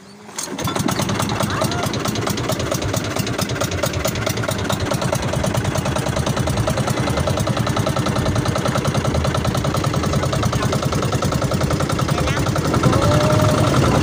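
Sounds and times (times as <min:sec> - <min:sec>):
boat engine running steadily: 0:00.0 - 0:14.0.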